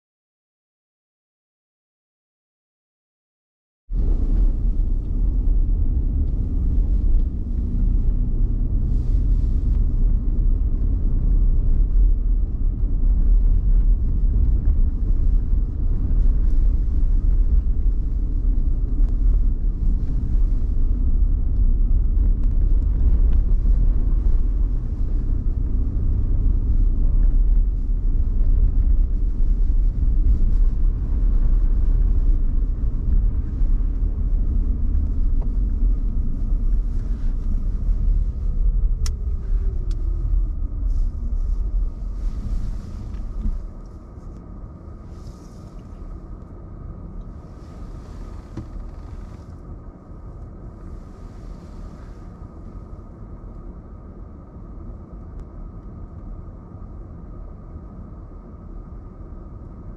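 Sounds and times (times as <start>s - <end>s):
car engine and road noise: 3.9s - 59.9s.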